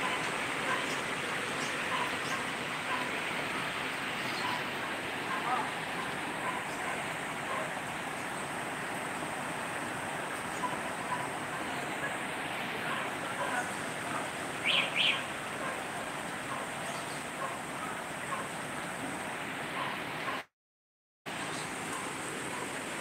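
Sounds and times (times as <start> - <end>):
heavy rain hissing: 0.0 - 20.2.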